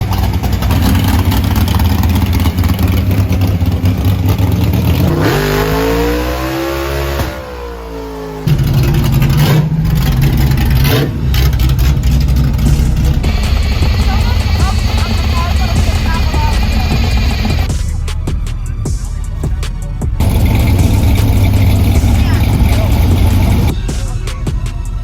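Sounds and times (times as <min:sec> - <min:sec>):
muscle car engines idling roughly: 0:00.0 - 0:05.8, 0:07.5 - 0:25.0
engine revving: 0:00.0 - 0:25.0.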